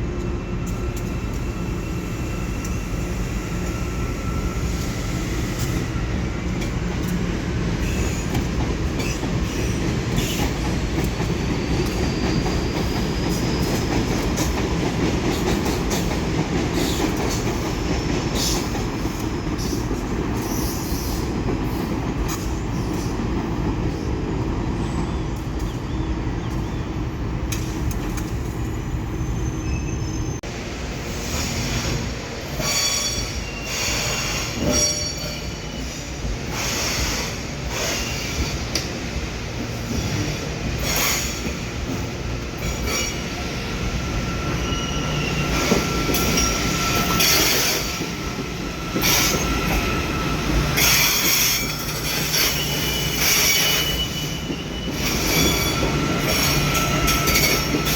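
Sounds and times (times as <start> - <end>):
train rumbling on rails: 0.0 - 57.9
wheels squealing against rails: 0.0 - 57.9.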